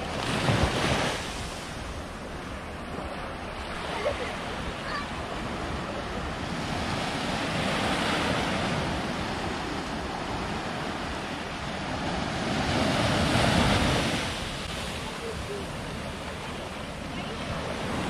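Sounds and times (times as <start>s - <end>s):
small waves breaking on beach: 0.0s - 18.0s.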